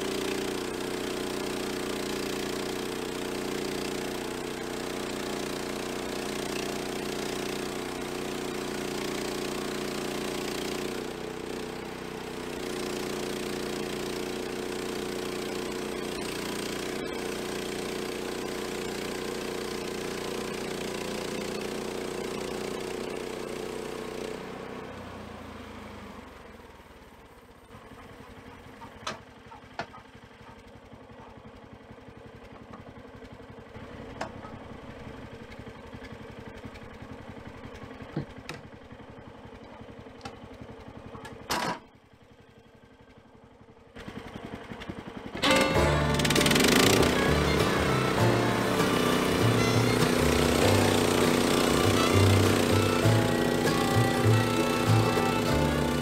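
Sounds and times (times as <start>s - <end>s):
sawmill gas engine running: 0.0s - 56.0s.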